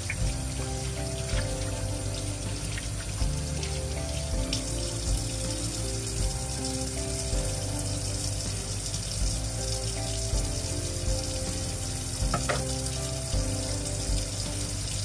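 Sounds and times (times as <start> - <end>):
background music with held notes: 0.0 - 15.0
food frying in a pan: 0.0 - 15.0.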